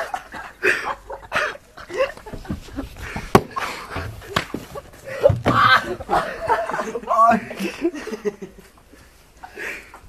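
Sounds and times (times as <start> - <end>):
men laughing: 0.0 - 10.0.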